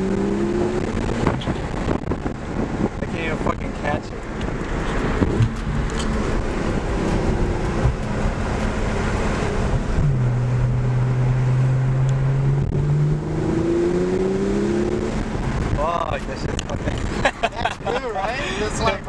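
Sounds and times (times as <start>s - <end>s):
car engine pulling hard: 0.0s - 19.0s
road and wind noise: 0.0s - 19.0s.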